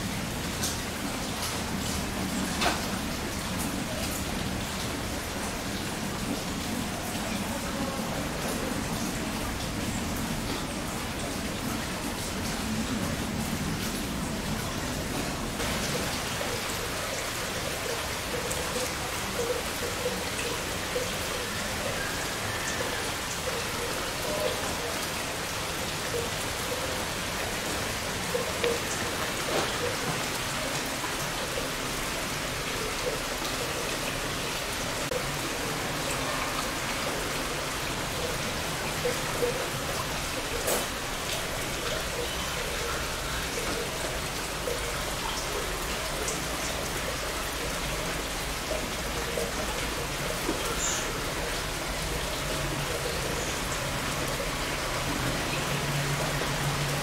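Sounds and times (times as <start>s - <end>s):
rain pattering: 0.0s - 57.0s
water drips: 0.0s - 57.0s.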